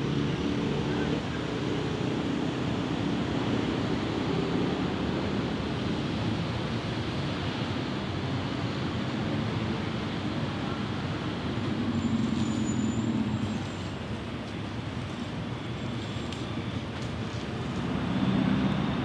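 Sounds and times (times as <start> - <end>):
distant road traffic hum: 0.0 - 19.0.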